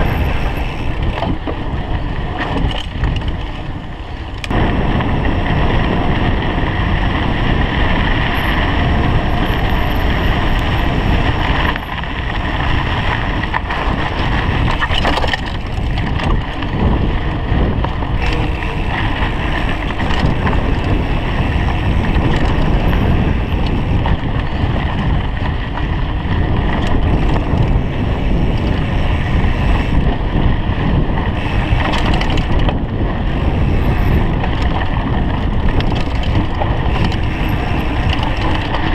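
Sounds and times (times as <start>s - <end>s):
bike rattling: 0.0s - 38.9s
rolling bike tyres: 0.0s - 38.9s
wind buffeting microphone: 0.0s - 38.9s.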